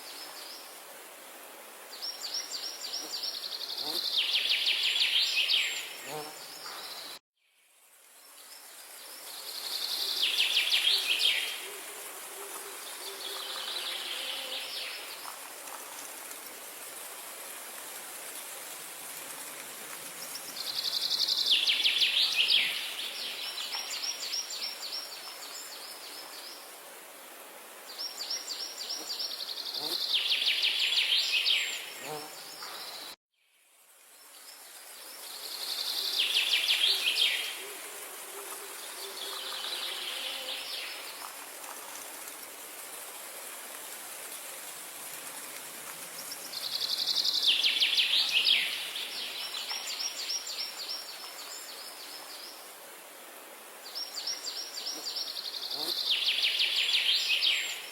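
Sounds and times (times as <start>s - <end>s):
steady outdoor hiss: 0.0s - 57.9s.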